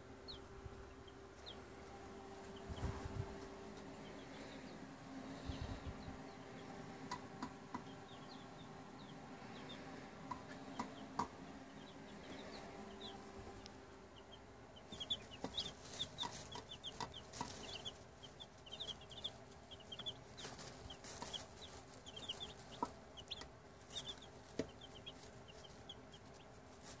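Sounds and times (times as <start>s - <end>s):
chicks peeping: 0.0s - 27.0s
faint steady hum: 0.0s - 27.0s.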